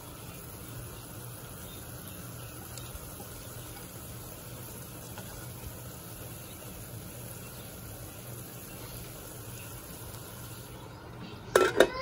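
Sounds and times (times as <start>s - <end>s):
steady hiss: 0.0s - 11.6s.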